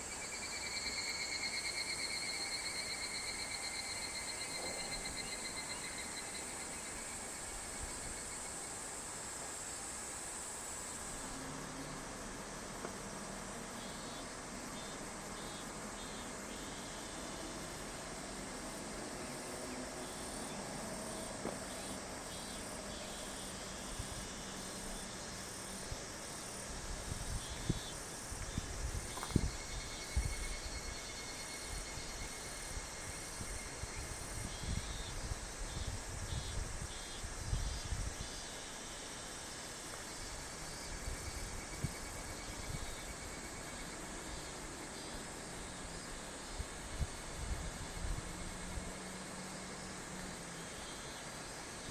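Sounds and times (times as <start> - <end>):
continuous hiss: 0.0 - 51.9
insects trilling: 0.0 - 51.9.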